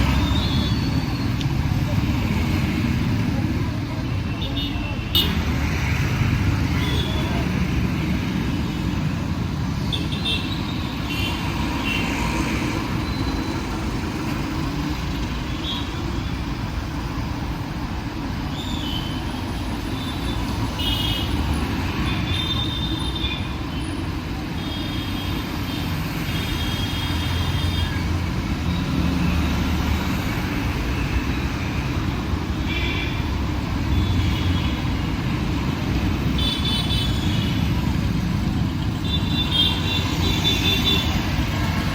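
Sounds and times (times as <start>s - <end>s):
street traffic engines and tyres: 0.0s - 41.9s.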